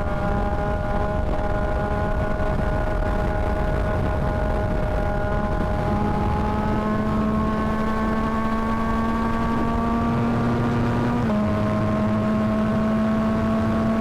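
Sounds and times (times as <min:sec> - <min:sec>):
motorcycle engine accelerating: 0:00.0 - 0:14.0
wind rush: 0:00.0 - 0:14.0.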